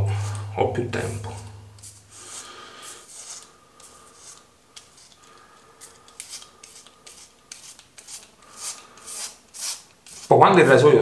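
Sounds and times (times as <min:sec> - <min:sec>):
razor scraping on scalp: 0:01.3 - 0:05.2, 0:05.8 - 0:10.8.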